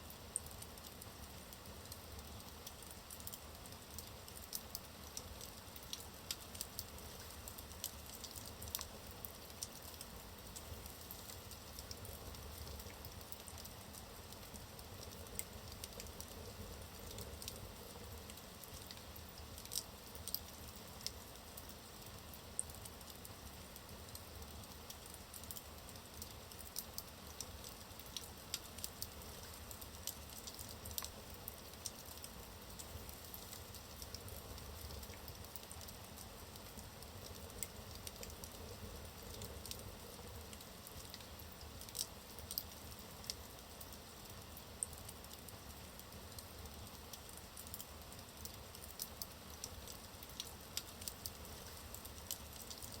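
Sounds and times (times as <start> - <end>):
wood crackling and popping: 0.3 - 53.0.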